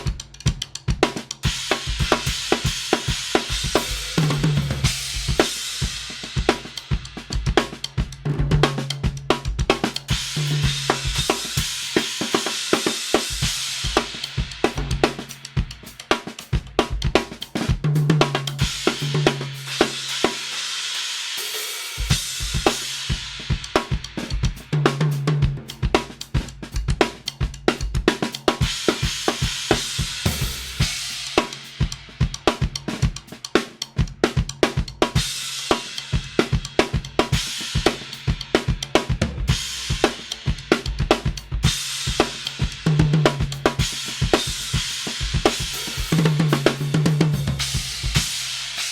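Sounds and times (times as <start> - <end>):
drum kit groove: 0.0 - 48.9.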